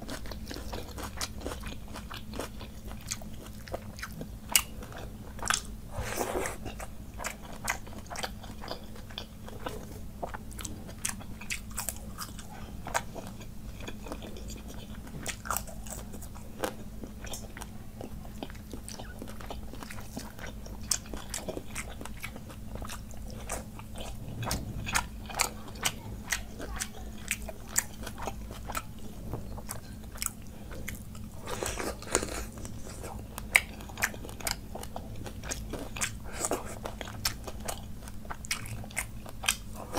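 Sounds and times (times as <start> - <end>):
chewing with crisp crunches: 0.0 - 39.9
steady low hum: 0.0 - 39.9.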